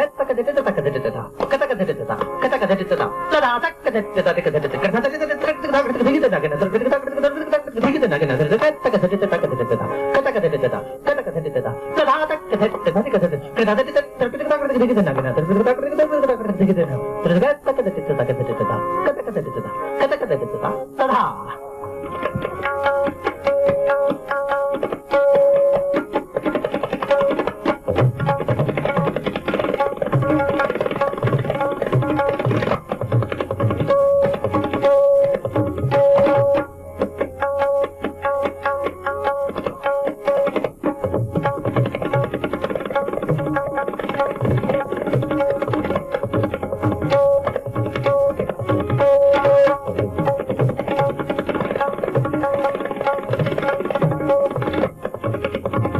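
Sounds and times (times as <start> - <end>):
tabla treble drum strokes: 0.0 - 55.9.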